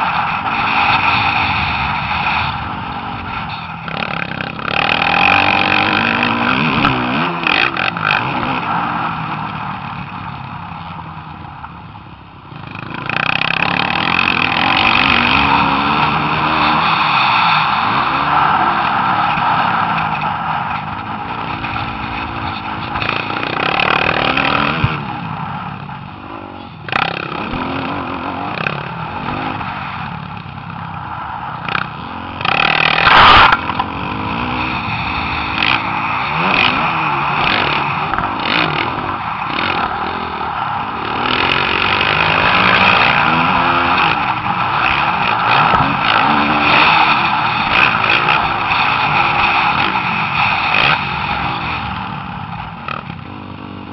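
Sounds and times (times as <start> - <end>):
dirt bike engines revving: 0.0 - 53.9
loud rushing noise: 0.0 - 53.9.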